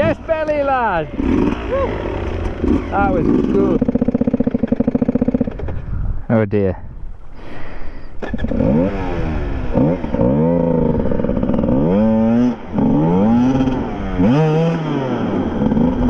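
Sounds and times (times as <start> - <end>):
dirt bike engine revving: 0.0 - 5.6, 8.2 - 16.0.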